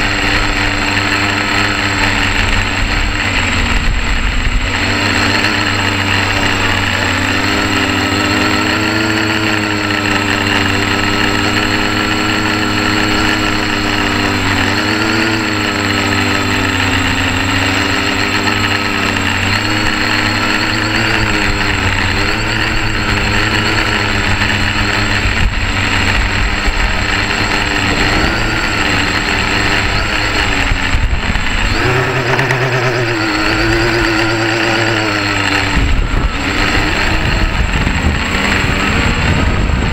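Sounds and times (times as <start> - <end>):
drone propellers buzzing: 0.0 - 39.9
thin steady high tone: 5.0 - 37.5.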